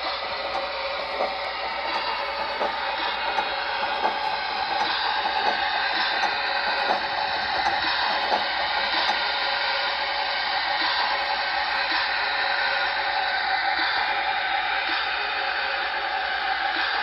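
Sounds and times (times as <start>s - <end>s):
model locomotive steam hiss: 0.0s - 17.0s.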